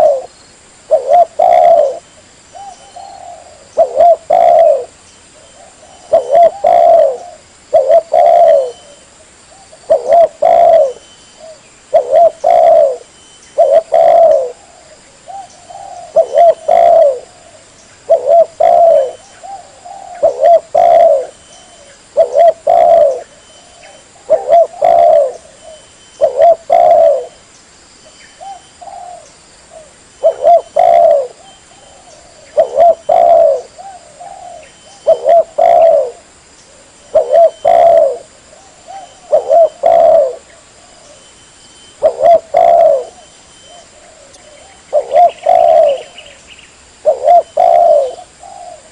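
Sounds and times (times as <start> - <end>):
dove cooing: 0.0 - 0.3, 0.9 - 27.4, 28.4 - 41.4, 42.0 - 46.4, 47.0 - 48.9.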